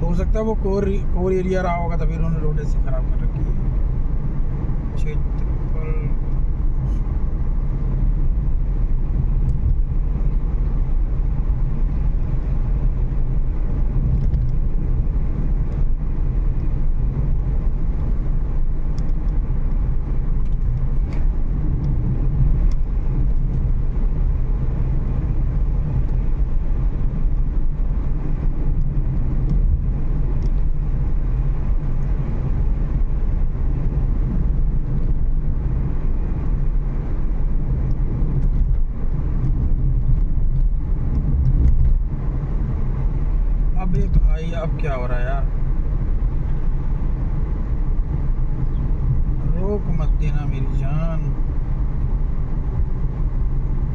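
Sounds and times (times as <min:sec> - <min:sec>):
car tyre and engine rumble: 0:00.0 - 0:53.9.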